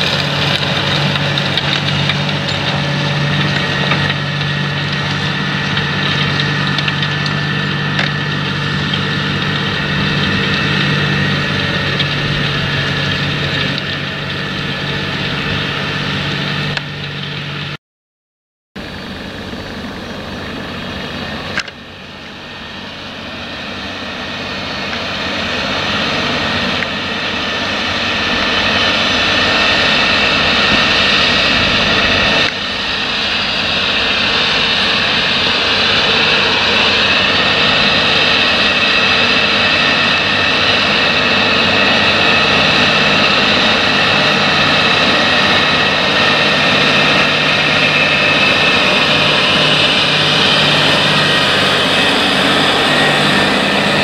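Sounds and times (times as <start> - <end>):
tractor diesel engine under load: 0.0 - 17.8, 18.8 - 54.0.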